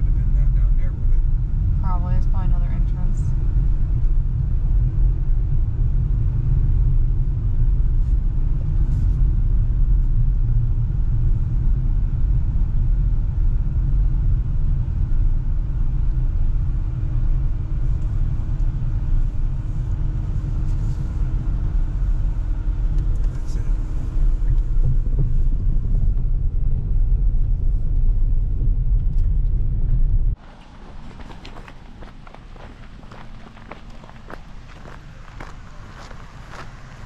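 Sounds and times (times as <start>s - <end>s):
car engine and tyres rumbling: 0.0s - 37.0s.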